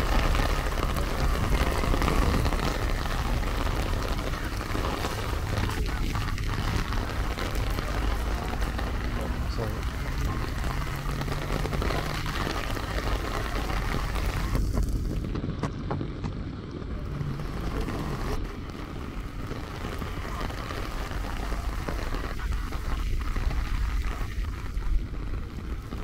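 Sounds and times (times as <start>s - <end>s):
deep rumble: 0.0s - 26.0s
heavy rain on pavement: 0.0s - 26.0s.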